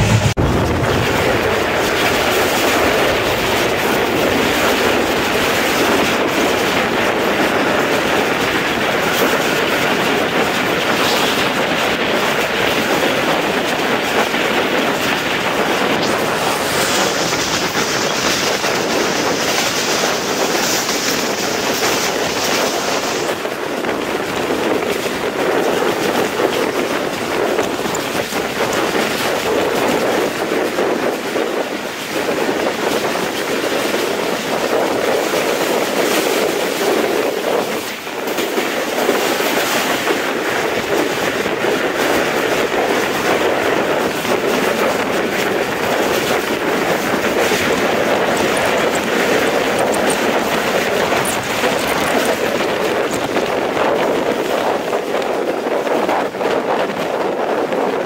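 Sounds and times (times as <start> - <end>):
train wheels on rails: 0.0 - 58.0
wind at open door: 0.0 - 58.0.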